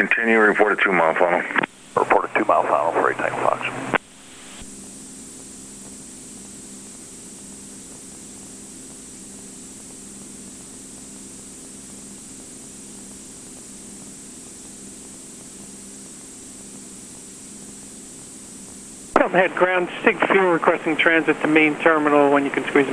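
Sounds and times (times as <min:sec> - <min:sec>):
radio static hiss with hum: 0:00.0 - 0:22.9.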